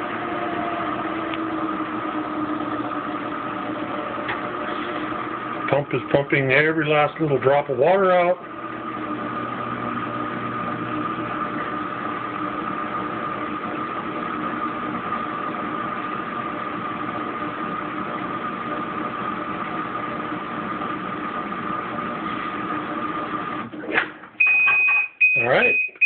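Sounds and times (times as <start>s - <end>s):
washing machine drain pump whining: 0.0s - 26.0s.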